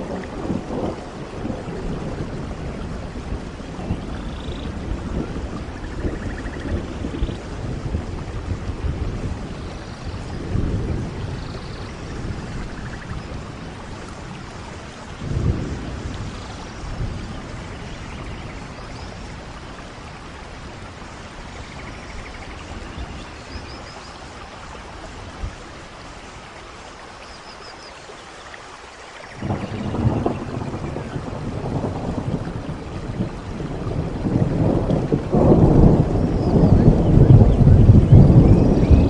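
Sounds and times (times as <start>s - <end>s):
rolling thunder: 0.0s - 25.6s, 29.4s - 39.0s
steady rain: 0.0s - 39.0s.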